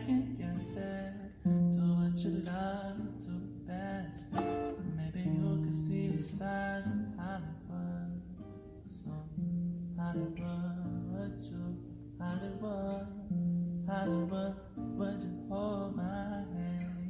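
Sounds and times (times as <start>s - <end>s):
acoustic guitar strumming: 0.0s - 17.0s
person singing slow melody: 0.0s - 17.0s.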